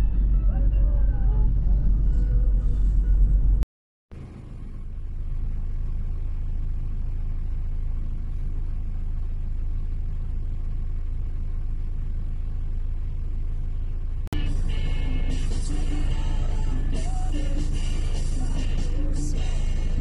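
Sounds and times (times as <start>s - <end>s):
car engine idling rumble: 0.0s - 20.0s.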